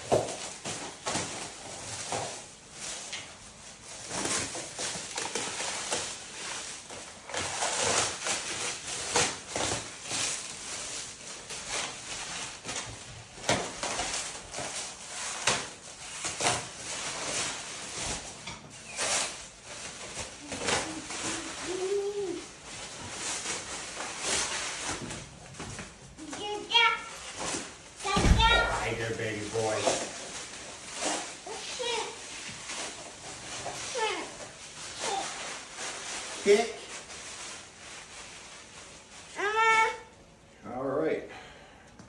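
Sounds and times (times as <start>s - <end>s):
plastic wrap crinkling: 0.0s - 40.1s.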